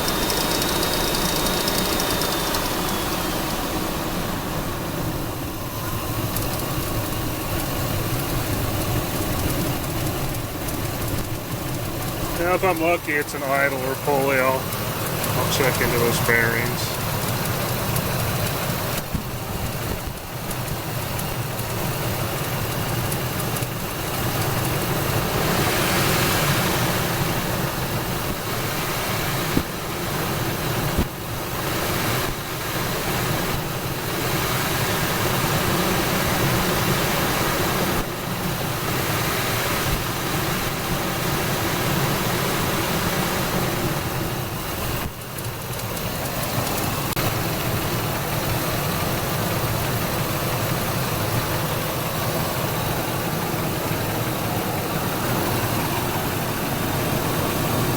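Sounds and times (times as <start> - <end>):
engine idling with ticking: 0.0 - 57.9.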